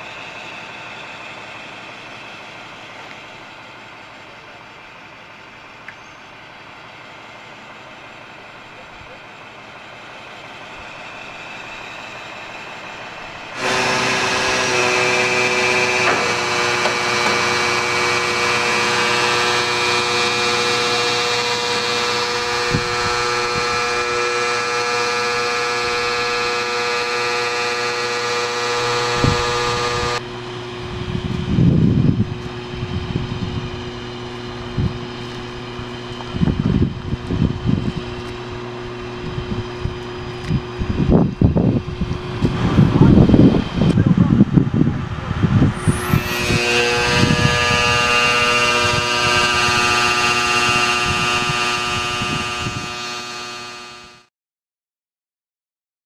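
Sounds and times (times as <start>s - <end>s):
machine hum with low rumble: 0.0s - 54.2s
blower whining: 0.0s - 54.3s.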